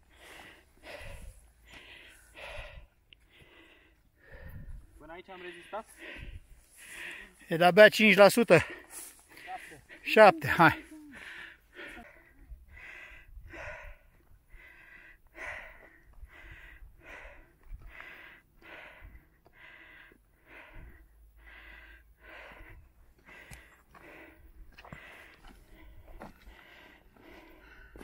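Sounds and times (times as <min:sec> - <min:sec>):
person panting hard: 0:00.0 - 0:07.6, 0:08.4 - 0:28.0.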